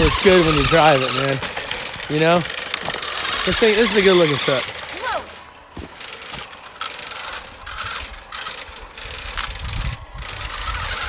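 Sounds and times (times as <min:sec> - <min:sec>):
toy truck motor whirring: 0:00.0 - 0:11.0
tyres on gravel: 0:00.0 - 0:11.0.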